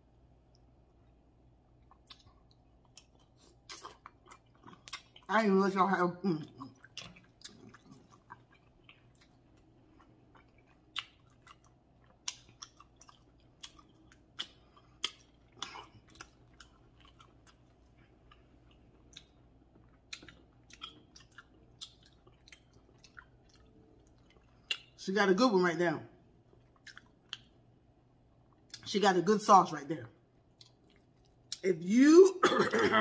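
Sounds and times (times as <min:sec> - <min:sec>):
faint low hum: 0:00.0 - 0:33.0
chewing with wet smacks: 0:00.4 - 0:05.5, 0:06.2 - 0:25.0, 0:26.4 - 0:28.9, 0:30.3 - 0:31.7.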